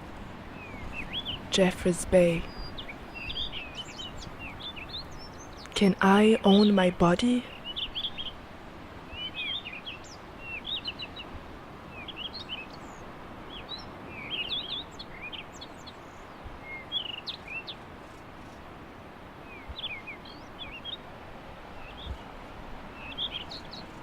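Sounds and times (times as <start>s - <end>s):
small birds chirping: 0.5s - 8.4s, 9.1s - 11.3s, 11.9s - 18.6s, 19.4s - 21.1s, 21.7s - 24.0s.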